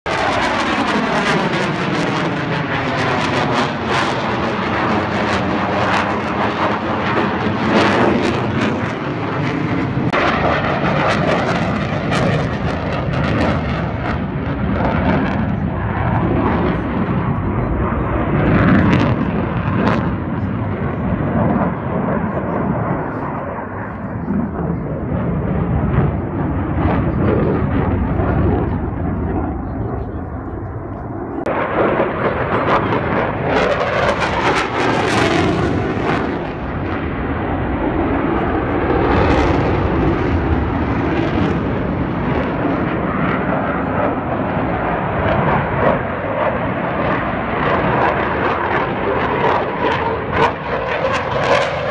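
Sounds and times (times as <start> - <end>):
jet roar passing overhead: 0.1 - 51.9.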